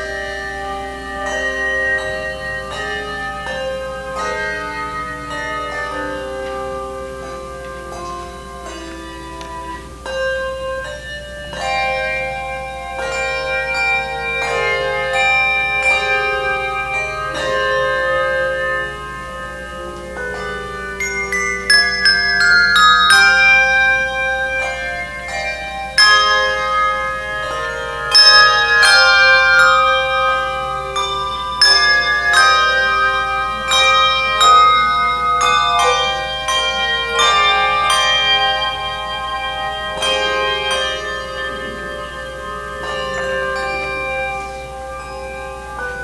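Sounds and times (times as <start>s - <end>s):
handbell choir ringing a hymn: 0.0s - 46.0s.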